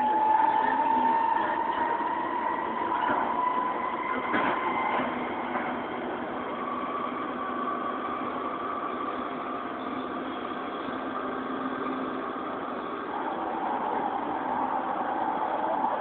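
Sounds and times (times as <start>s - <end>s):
metro train humming: 0.0s - 16.0s.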